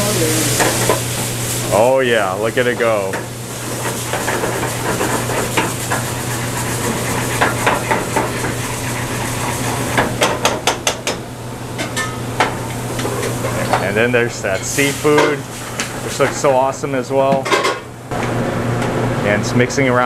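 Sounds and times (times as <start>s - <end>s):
sizzling: 0.0s - 16.3s.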